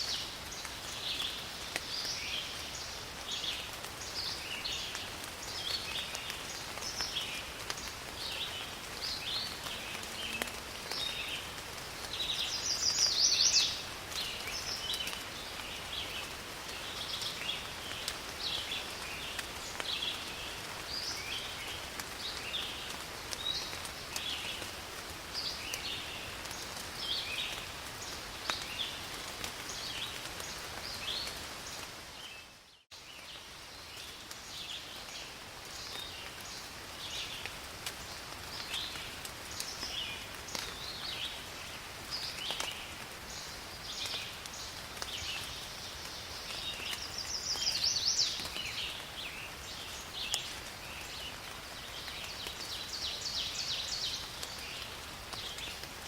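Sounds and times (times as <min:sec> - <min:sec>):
forest rain: 0:00.0 - 0:56.0.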